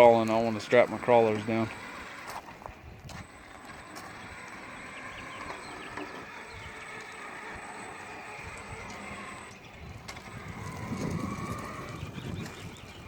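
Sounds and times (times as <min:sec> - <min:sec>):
rc truck running: 0:00.0 - 0:13.0.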